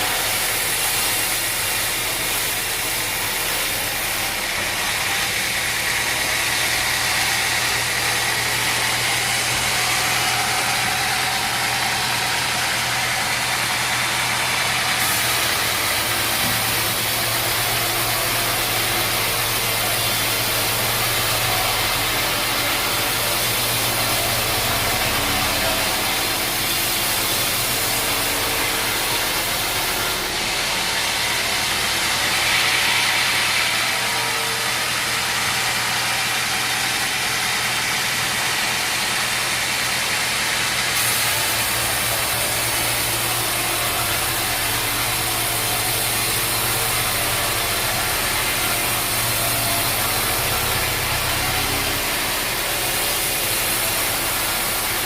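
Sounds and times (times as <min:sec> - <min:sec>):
broad even hiss: 0:00.0 - 0:38.2, 0:40.9 - 0:55.0
sawmill machinery humming: 0:00.0 - 0:55.0.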